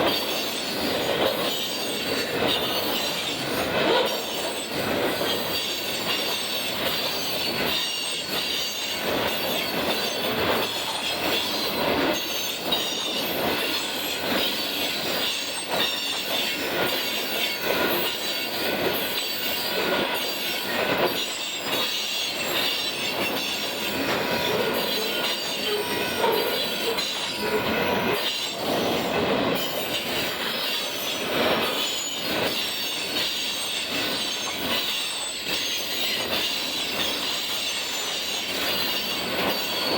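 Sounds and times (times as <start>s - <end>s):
high wheel squeal: 0.0s - 39.9s
train wheels clacking on rail joints: 0.0s - 39.9s.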